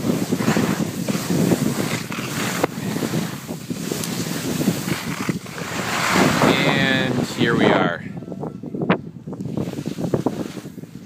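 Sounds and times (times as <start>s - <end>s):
skis scraping over snow: 0.0s - 7.8s, 9.4s - 11.0s
wind buffeting microphone: 0.0s - 11.0s.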